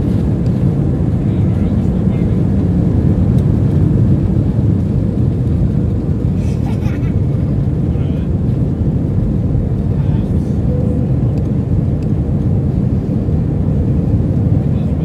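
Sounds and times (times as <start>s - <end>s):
jet engines at takeoff power: 0.0s - 15.0s
wheels rumbling on runway: 0.0s - 15.0s.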